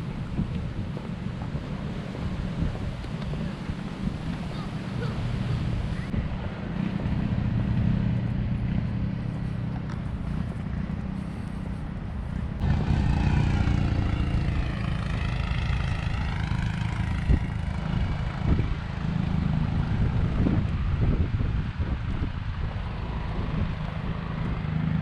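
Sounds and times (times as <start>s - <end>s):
outdoor rumble: 0.0s - 25.0s
vehicle passing by: 0.0s - 25.0s.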